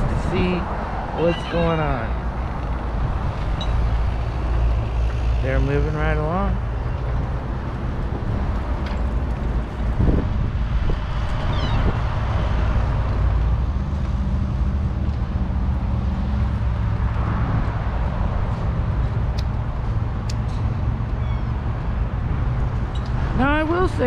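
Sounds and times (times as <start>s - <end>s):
road traffic: 0.0s - 24.0s
wind: 0.0s - 24.0s.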